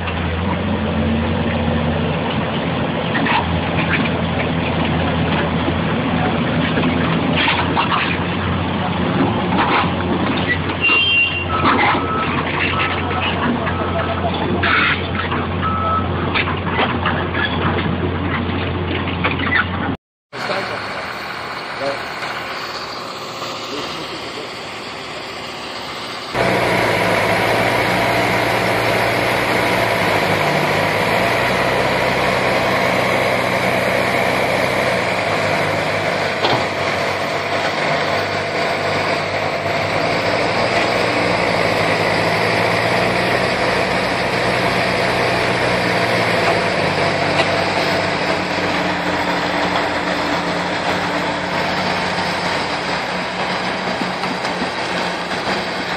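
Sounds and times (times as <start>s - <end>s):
heavy diesel engines working: 0.0s - 55.9s.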